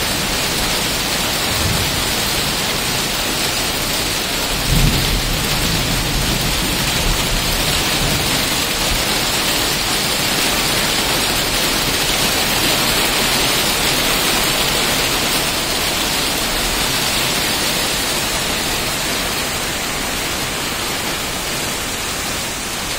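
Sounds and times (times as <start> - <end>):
rain falling steadily: 0.0 - 22.9.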